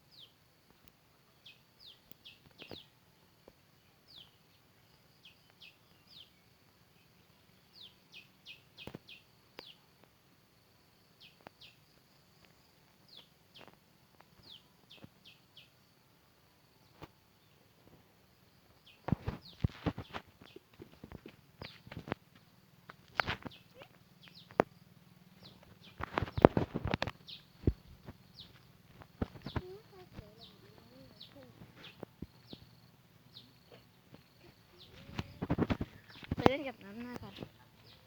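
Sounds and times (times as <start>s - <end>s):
bird chirping: 0.0s - 10.0s, 11.0s - 15.9s, 18.7s - 38.0s.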